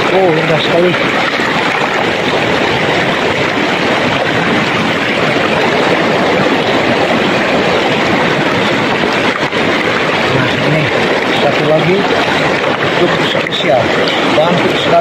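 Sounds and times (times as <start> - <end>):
river water rushing over stones: 0.0 - 15.0.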